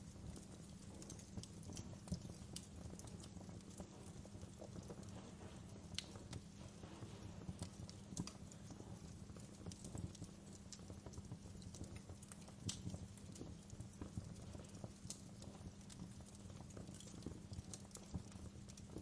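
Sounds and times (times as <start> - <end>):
wood fire crackling in fireplace: 0.0 - 19.0.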